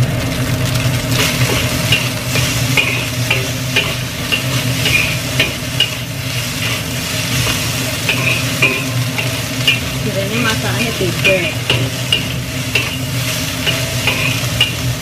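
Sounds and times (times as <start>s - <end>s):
frying sizzle: 0.0s - 15.0s
steady low hum: 0.0s - 15.0s
metal spatula scraping a wok: 1.1s - 15.0s.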